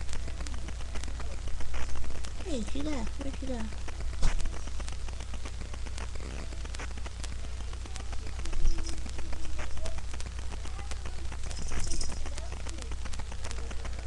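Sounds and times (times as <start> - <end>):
low electrical hum: 0.0 - 14.0
small clicks and crackles: 0.0 - 14.0.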